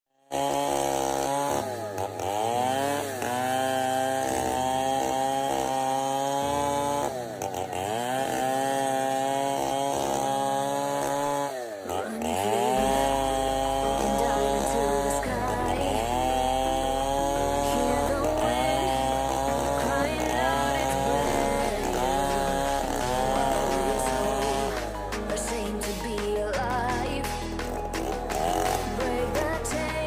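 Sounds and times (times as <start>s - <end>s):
chainsaw cutting into log: 0.2s - 30.0s.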